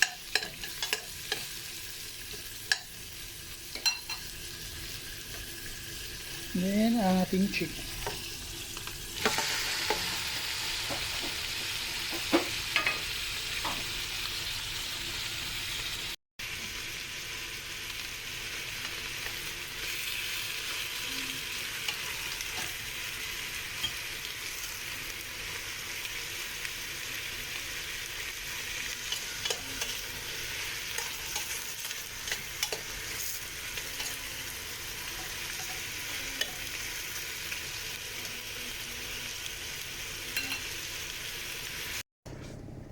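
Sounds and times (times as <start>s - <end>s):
chicken sizzling in oil: 0.0s - 42.0s.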